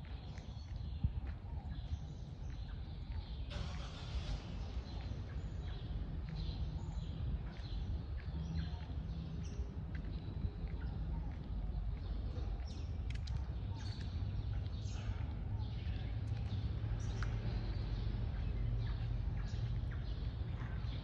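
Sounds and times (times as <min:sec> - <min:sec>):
small birds chirping: 0:00.0 - 0:03.5, 0:04.5 - 0:21.0
steady low rumble: 0:00.0 - 0:21.0.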